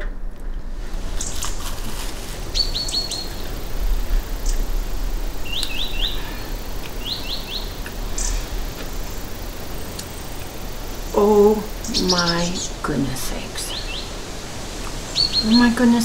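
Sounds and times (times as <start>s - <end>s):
bird chirping: 2.4s - 16.0s.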